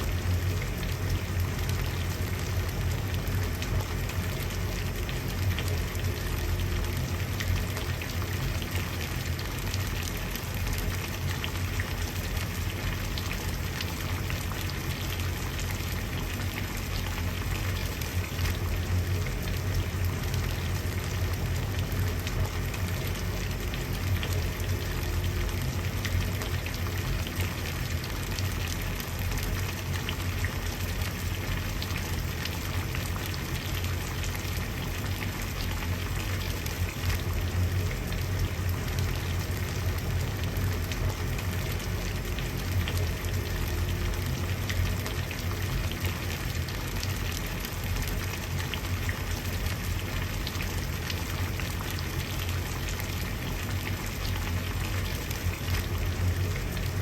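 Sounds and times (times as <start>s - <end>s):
water boiling and bubbling: 0.0s - 57.0s.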